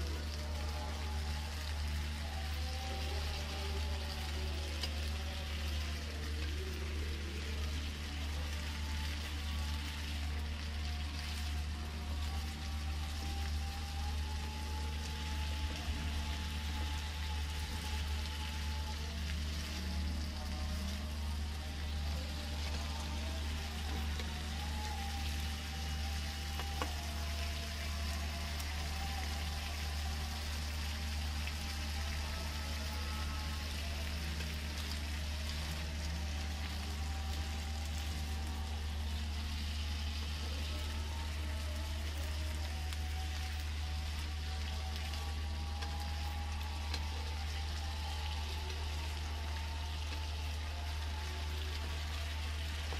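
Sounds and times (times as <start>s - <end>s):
low steady hum: 0.0s - 52.9s
potatoes sizzling in oil: 0.0s - 52.9s.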